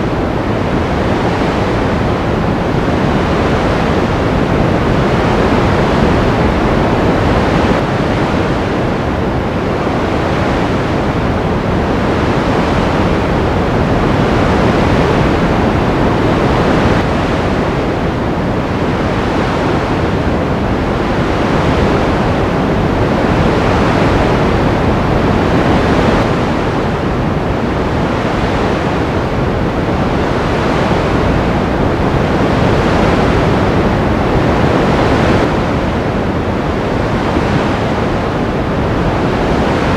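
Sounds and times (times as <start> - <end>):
ocean waves washing: 0.0 - 39.9.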